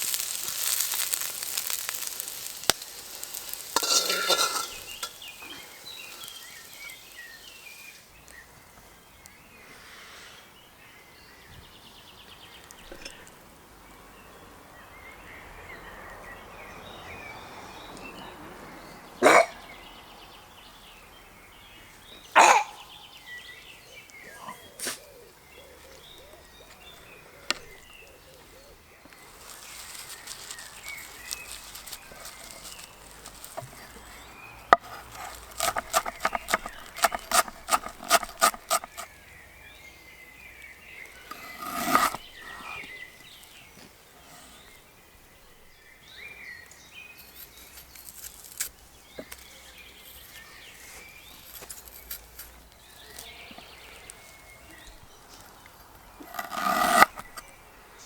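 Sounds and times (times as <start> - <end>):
faint birdsong: 0.0 - 58.0.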